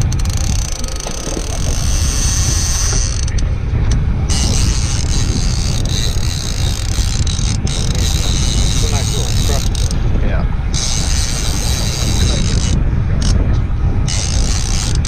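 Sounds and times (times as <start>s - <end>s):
fishing reel clicking and creaking: 0.0s - 10.1s, 10.7s - 13.4s, 14.1s - 15.0s
steady low rumble: 0.0s - 15.0s.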